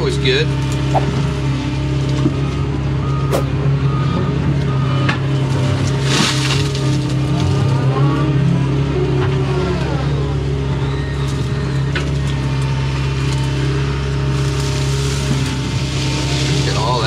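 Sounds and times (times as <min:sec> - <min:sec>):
excavator diesel engine running: 0:00.0 - 0:17.0
hydraulic whine: 0:00.4 - 0:17.0.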